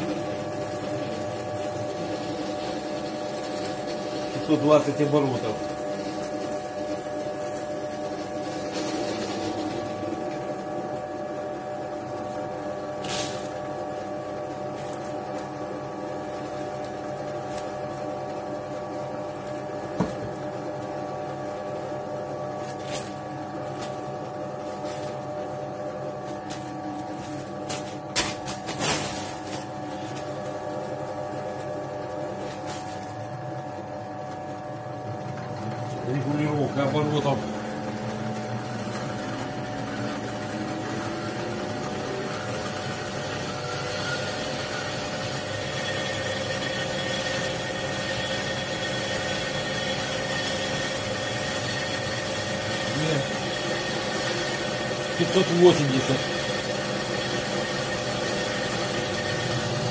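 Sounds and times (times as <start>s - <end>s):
drill press motor whine: 0.0s - 59.9s.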